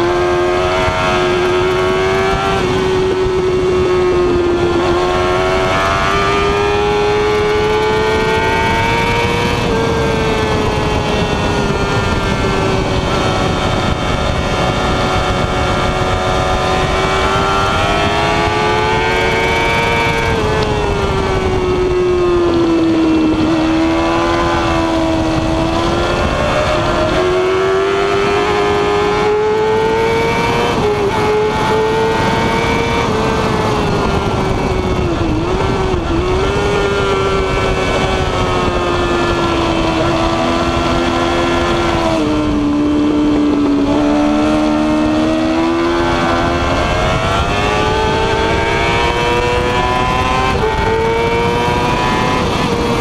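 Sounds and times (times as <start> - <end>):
motorcycle engine at high revs: 0.0 - 53.0
wind rush on microphone: 0.0 - 53.0.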